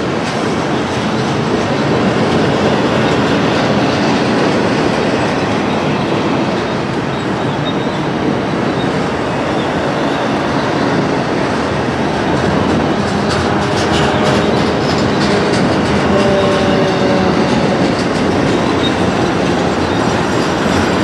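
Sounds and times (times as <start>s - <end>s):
train wheels rumbling on rails: 0.0s - 21.0s
wheels clacking over rail joints: 0.0s - 21.0s.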